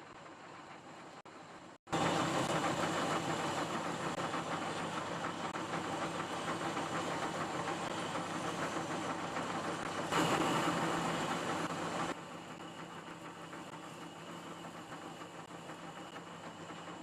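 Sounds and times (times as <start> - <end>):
metal lathe running: 2.0 - 17.0.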